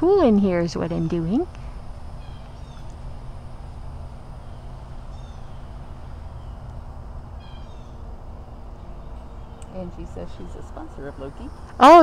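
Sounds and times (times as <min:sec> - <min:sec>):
low outdoor rumble: 0:00.0 - 0:12.0
small birds chirping: 0:00.2 - 0:12.0.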